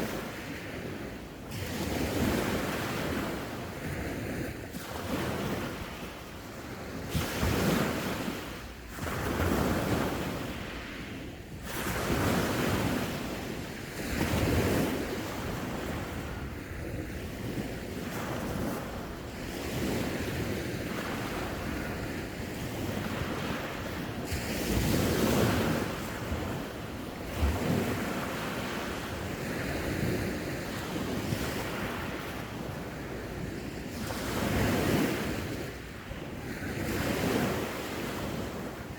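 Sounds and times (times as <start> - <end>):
sea waves breaking on shore: 0.0 - 38.9
wind buffeting microphone: 0.0 - 38.9.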